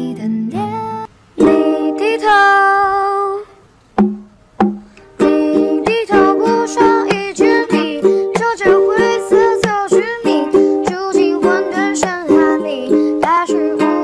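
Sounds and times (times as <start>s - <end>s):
song sung over ukulele: 0.0s - 14.0s.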